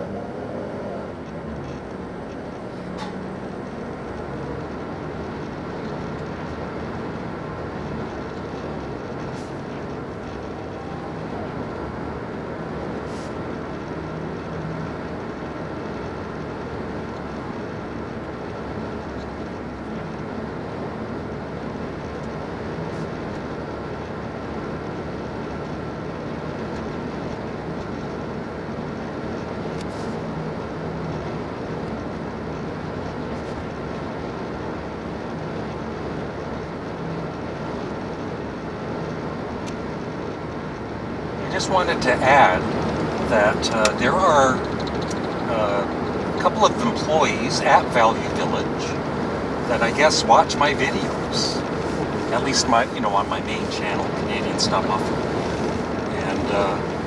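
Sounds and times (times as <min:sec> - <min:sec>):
car engine running: 0:00.0 - 0:57.0
tyres rolling on pavement: 0:00.0 - 0:57.0.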